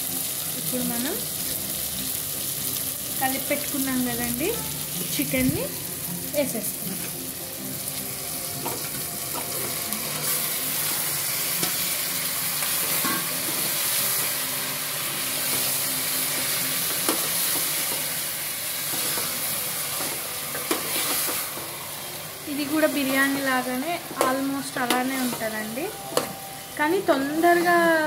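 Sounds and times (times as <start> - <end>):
chicken sizzling in a pot: 0.0 - 28.0.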